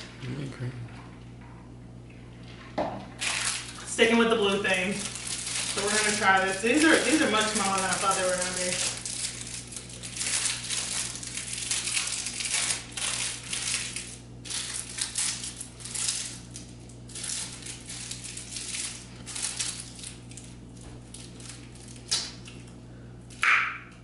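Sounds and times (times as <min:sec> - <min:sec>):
plastic wrapper crinkling: 0:02.6 - 0:23.4.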